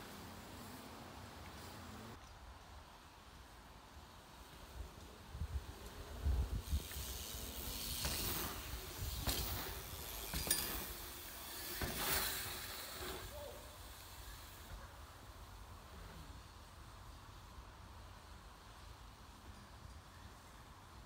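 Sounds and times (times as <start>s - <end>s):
bike tyres hissing over dirt: 0.0s - 21.0s.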